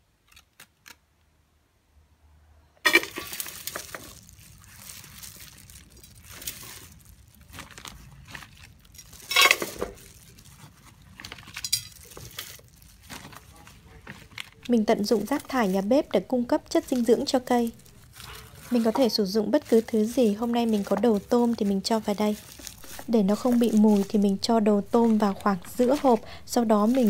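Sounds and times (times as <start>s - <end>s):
soil scraping and rustling: 2.8s - 27.0s.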